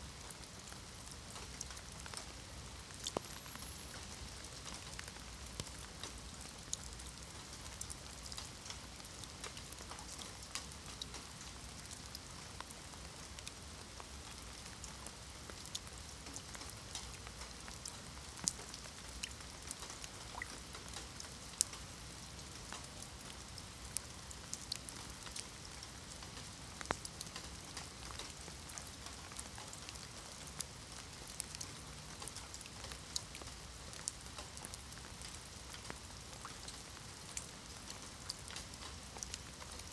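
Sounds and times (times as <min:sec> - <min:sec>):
rain pattering on stone paving: 0:00.0 - 0:39.9.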